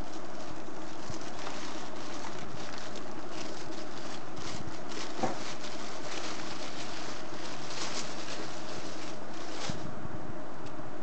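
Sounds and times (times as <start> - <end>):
tissue paper and plastic rustling: 0.0 - 9.9.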